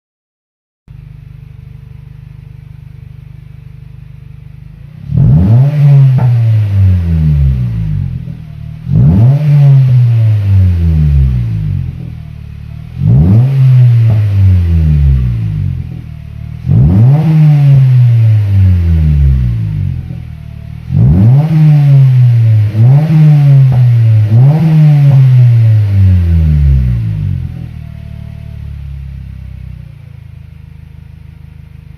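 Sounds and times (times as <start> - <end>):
car engine idling and revving: 0.9 - 31.9.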